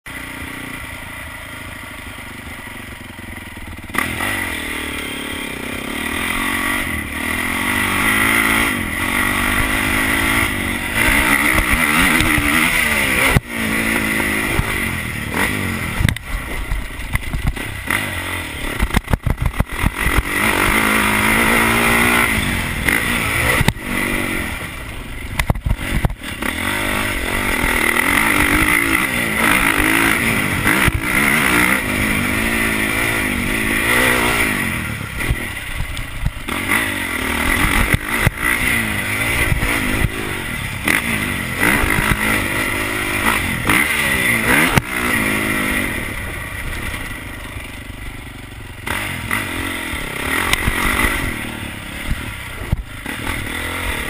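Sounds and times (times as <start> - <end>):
motocross bike engine: 0.1 - 54.0.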